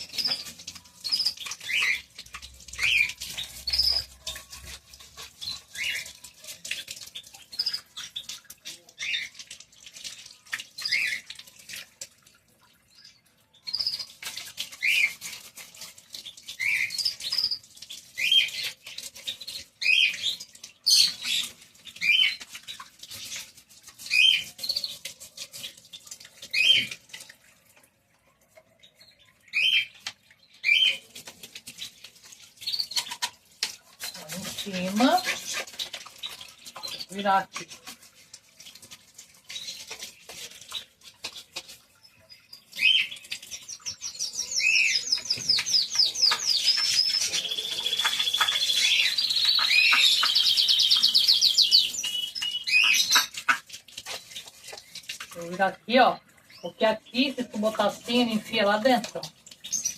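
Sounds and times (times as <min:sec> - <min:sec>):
small birds chirping: 0:00.0 - 0:11.9, 0:12.6 - 0:37.9, 0:38.8 - 0:59.9.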